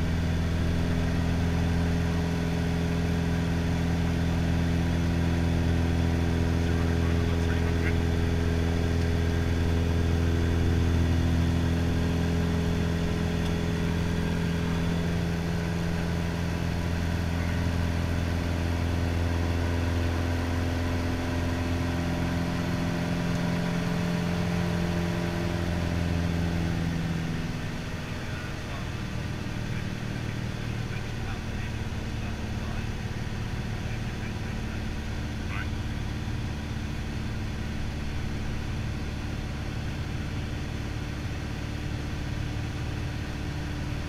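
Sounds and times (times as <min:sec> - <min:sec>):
light aircraft engine droning: 0:00.0 - 0:44.0.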